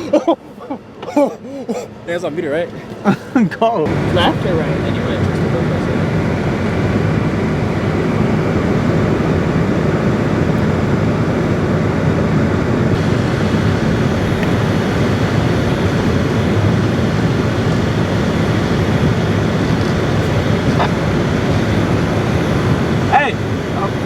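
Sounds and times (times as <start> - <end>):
vehicle engine running under load: 3.9 - 24.0.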